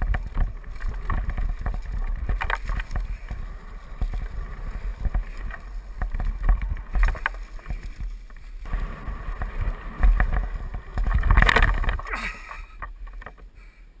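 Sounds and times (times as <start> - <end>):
rushing scrape: 0.0 - 13.5
bike knocking and rattling: 0.0 - 13.7.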